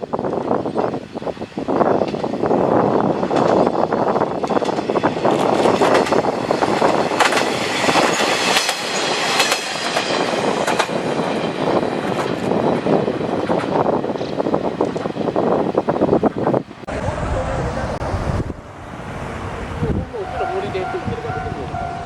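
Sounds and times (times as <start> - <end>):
railcar passing: 0.0 - 22.0.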